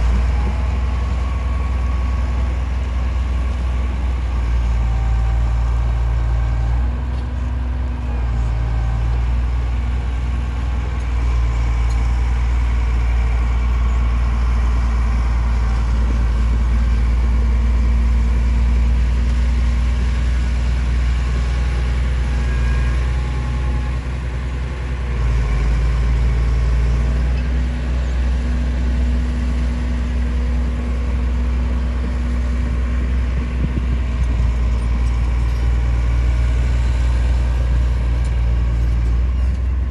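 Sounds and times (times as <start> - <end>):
heavy diesel engine rumbling: 0.0 - 39.9.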